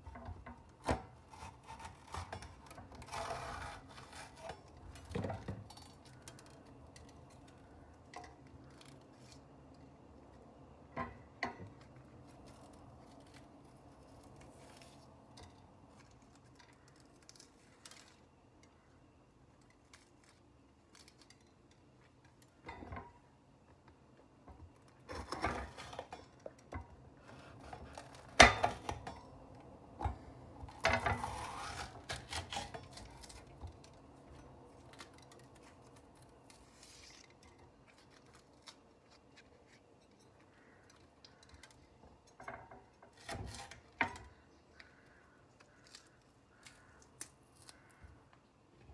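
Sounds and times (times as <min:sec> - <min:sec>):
faint handling sounds: 0:00.0 - 0:48.9.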